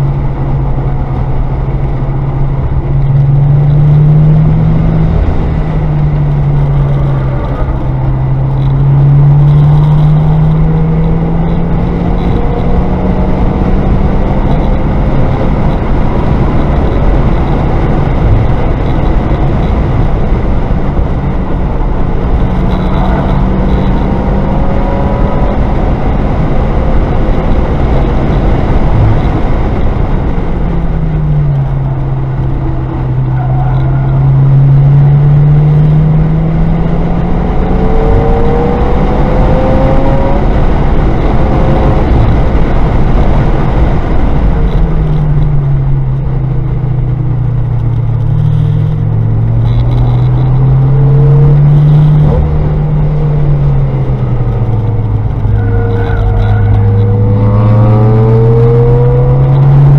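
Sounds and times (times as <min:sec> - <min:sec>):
car engine revving: 0:00.0 - 0:59.9
road and wind noise: 0:00.0 - 0:59.9.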